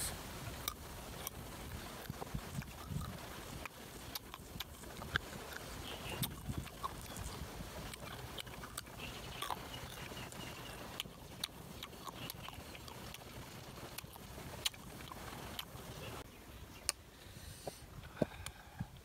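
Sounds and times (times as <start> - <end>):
faint steady hiss: 0.0 - 19.0
crunchy fruit chewing: 0.5 - 16.2.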